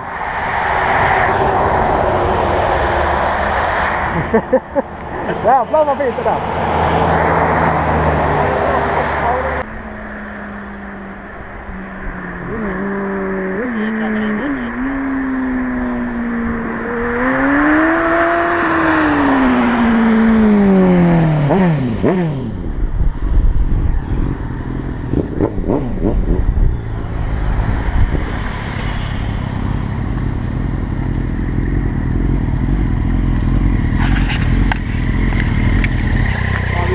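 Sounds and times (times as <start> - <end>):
motorcycle engine: 1.2 - 36.9.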